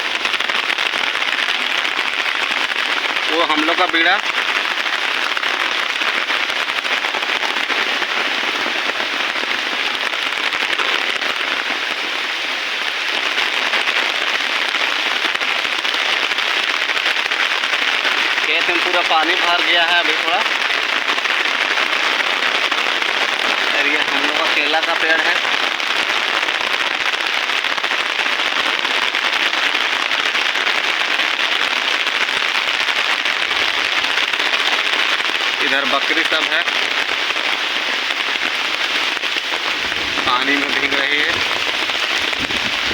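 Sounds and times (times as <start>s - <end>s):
heavy rain pouring: 0.0s - 42.9s
sharp close raindrop hits: 0.0s - 42.9s.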